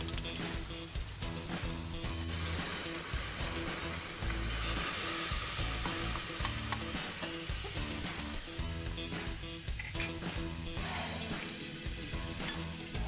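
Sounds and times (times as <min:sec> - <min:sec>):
onion and garlic sizzling in oil: 0:00.1 - 0:13.0.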